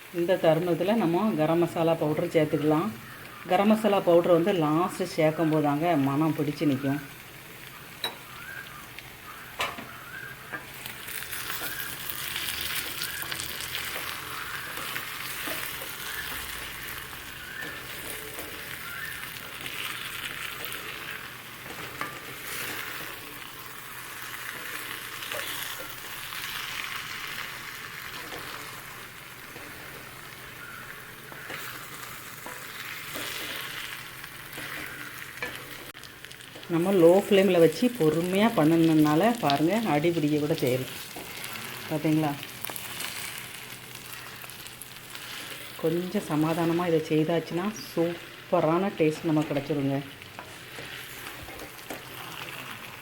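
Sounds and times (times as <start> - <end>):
chicken sizzling in a pan: 0.0 - 53.0.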